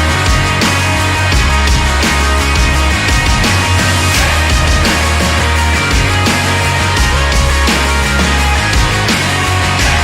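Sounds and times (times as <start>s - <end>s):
rock music with heavy bass: 0.0s - 10.0s.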